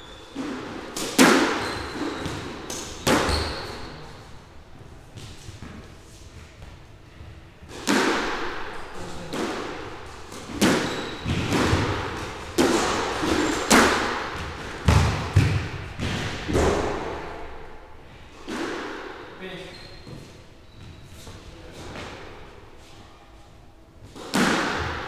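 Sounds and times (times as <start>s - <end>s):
squash ball hitting rackets and walls: 0.0s - 19.4s, 24.0s - 25.0s.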